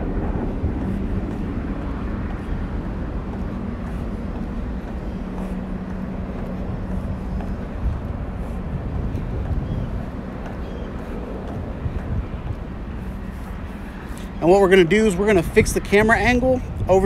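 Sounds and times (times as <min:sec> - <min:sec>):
drone propellers humming: 0:00.0 - 0:17.0
low outdoor rumble: 0:00.0 - 0:17.0.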